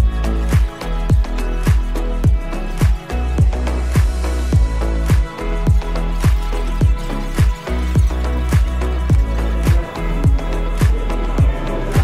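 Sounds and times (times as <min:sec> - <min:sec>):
held bass line: 0:00.0 - 0:12.0
kick drum beat: 0:00.0 - 0:12.0.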